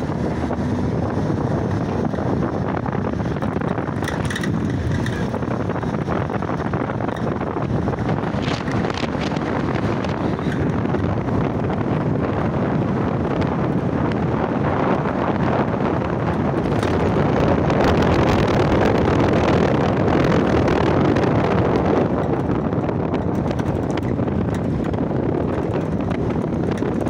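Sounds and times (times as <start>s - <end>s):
car road noise: 0.0s - 27.0s
wind buffeting microphone: 0.0s - 27.0s.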